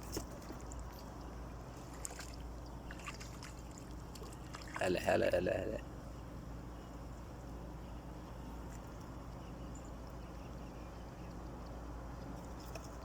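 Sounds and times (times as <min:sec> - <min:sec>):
small boat motor humming: 0:00.0 - 0:13.0.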